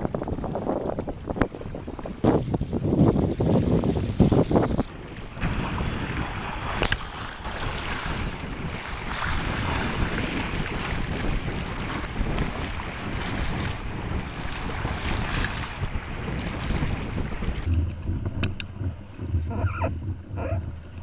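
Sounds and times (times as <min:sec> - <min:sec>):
choppy water splashing: 0:00.0 - 0:21.0
wind buffeting microphone: 0:00.0 - 0:21.0.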